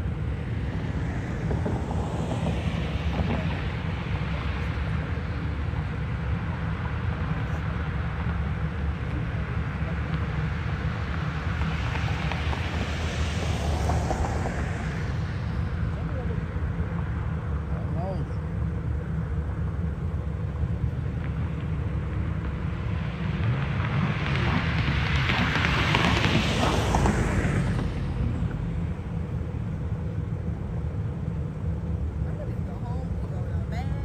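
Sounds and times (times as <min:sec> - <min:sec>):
distant car engines rumbling: 0:00.0 - 0:34.0.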